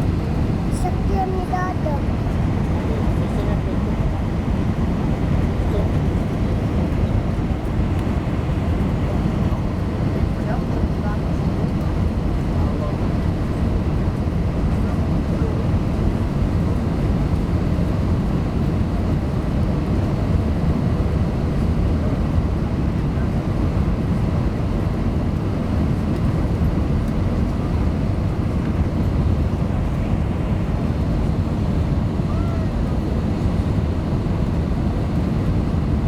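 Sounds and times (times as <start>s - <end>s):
jet engine rumble in cabin: 0.0s - 36.0s.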